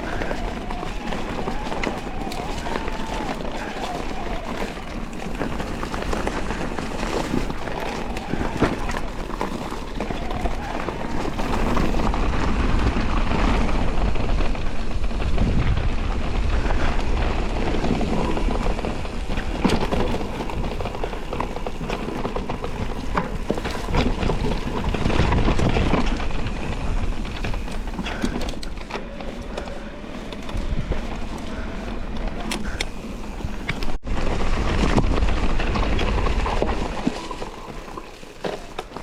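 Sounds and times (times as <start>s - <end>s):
bike clicks and rattles: 0.0s - 39.0s
tyres rumbling on dirt and stones: 0.0s - 39.0s
wind on microphone: 0.0s - 39.0s.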